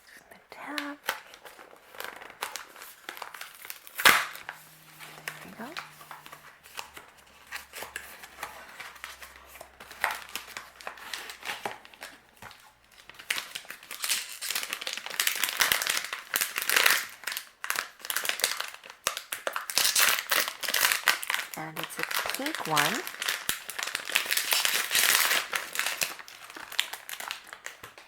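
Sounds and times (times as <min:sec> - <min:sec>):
packaging crinkling and rustling: 0:00.6 - 0:28.0.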